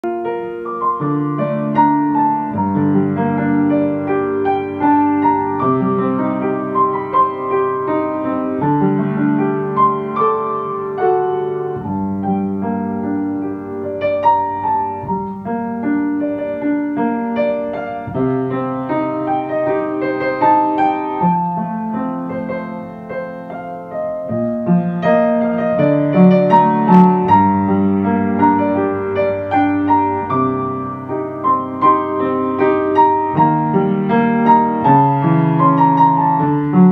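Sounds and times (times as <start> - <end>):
slow piano music: 0.0 - 36.9.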